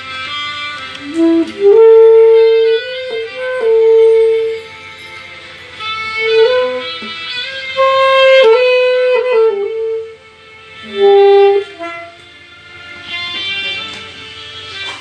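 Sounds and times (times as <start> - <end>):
slow instrumental melody: 0.0 - 15.0.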